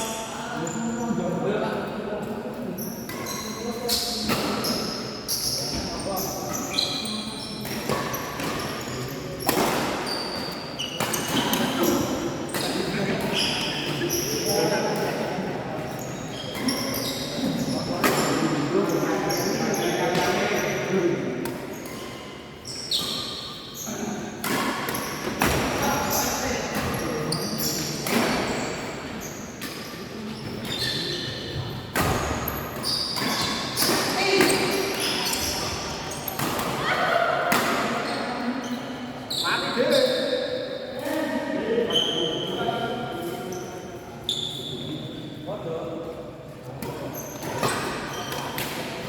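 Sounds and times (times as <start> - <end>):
shoes squeaking on court floor: 2.8 - 15.2, 15.9 - 21.0, 21.6 - 36.9, 37.7 - 40.4, 41.9 - 45.4, 46.7 - 49.0.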